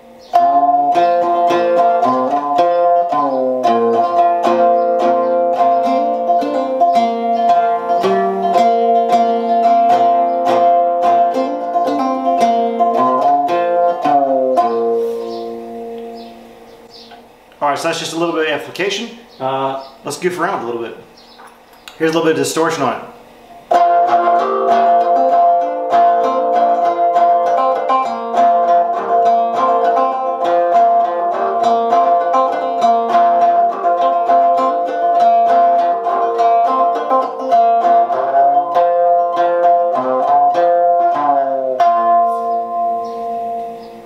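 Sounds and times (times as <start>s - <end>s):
distorted plucked banjo: 0.0s - 44.0s.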